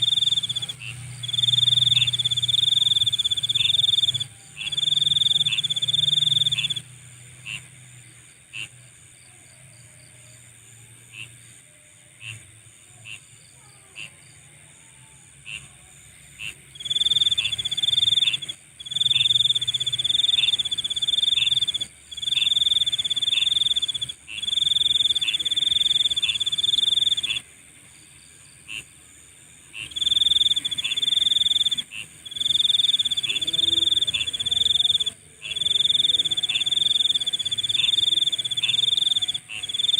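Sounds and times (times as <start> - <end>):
very high steady buzz: 0.0 - 9.0, 15.8 - 39.9
insect chirps: 0.0 - 39.9
insects trilling: 0.0 - 39.9.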